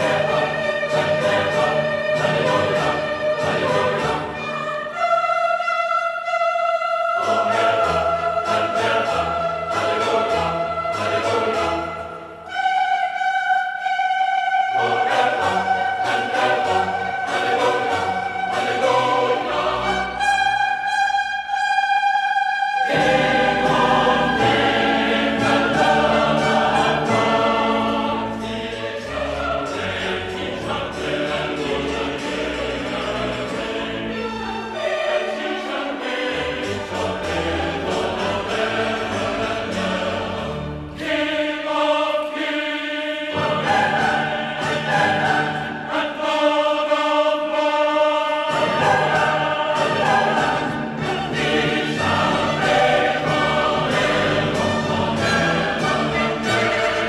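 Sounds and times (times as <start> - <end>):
instrumental accompaniment: 0.0 - 42.7, 48.4 - 57.0
choir singing: 0.0 - 57.0.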